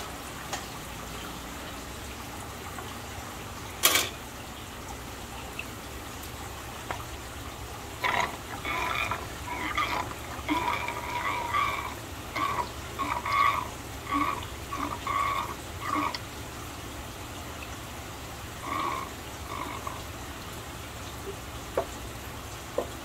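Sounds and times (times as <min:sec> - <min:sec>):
bubbling water gurgles: 0:00.0 - 0:23.0
water splashing: 0:00.0 - 0:23.0.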